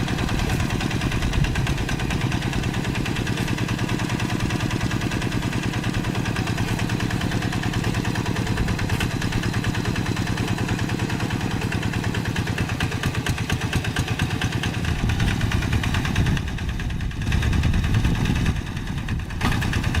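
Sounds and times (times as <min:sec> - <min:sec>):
diesel engine chugging: 0:00.0 - 0:20.0.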